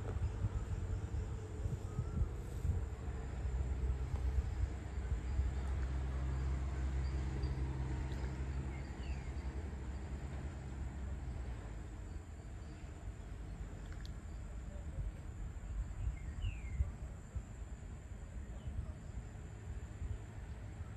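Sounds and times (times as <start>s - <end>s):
distant engine rumble: 0.0s - 20.9s
faint insect chirping: 0.0s - 20.9s.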